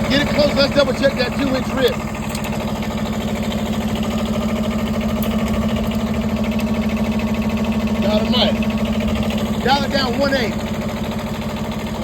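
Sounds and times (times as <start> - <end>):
sawmill engine idling: 0.0 - 12.0.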